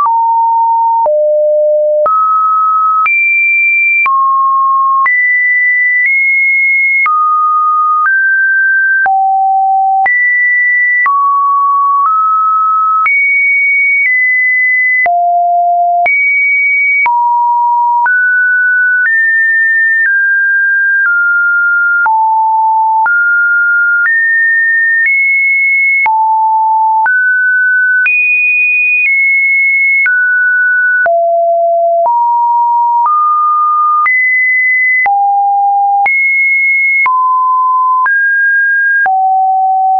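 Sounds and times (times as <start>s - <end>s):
sine-wave test tone beeps: 0.0s - 39.9s.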